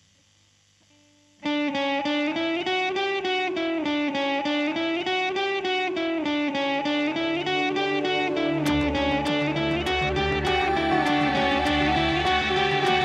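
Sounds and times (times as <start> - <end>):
guitar picking repeating pattern: 1.4 - 13.0.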